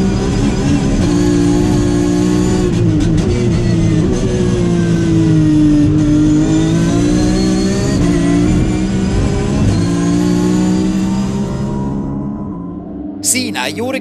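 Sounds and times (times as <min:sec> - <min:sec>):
race car engine at speed: 0:00.0 - 0:13.9.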